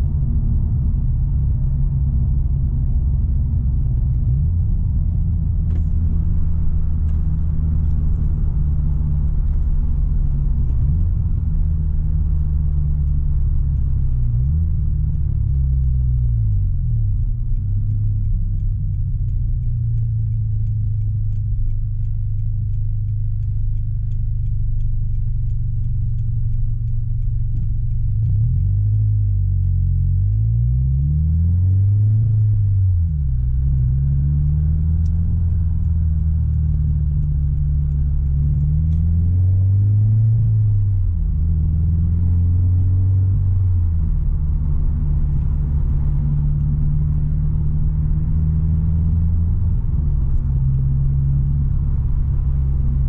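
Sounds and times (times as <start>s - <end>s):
car engine through loud exhaust: 0.0s - 53.0s.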